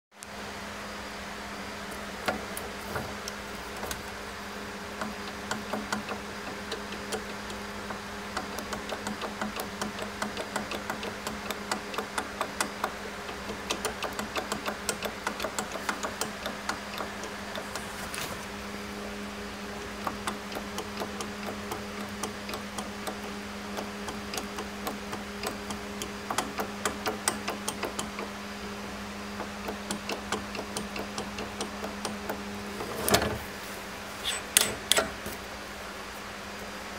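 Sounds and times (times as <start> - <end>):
drill press motor hum: 1.2 - 35.6
rapid irregular mechanical ticking: 1.9 - 33.3.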